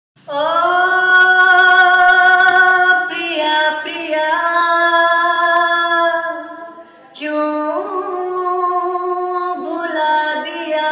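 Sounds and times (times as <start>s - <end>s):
man singing in high voice: 0.2s - 10.9s.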